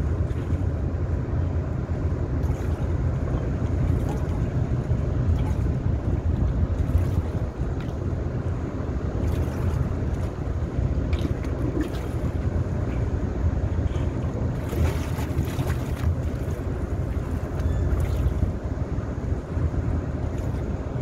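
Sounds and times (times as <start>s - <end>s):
water lapping: 0.0s - 1.0s, 2.3s - 21.0s
boat engine rumble: 0.0s - 21.0s
wind buffeting microphone: 0.0s - 21.0s.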